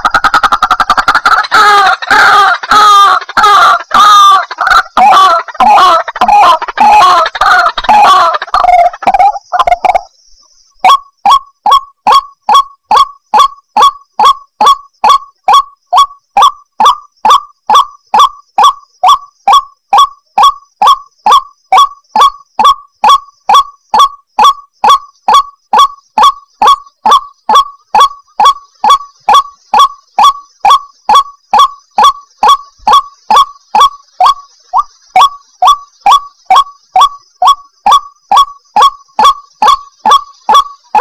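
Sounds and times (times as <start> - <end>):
waterhen calling: 0.0 - 10.2, 10.8 - 41.0.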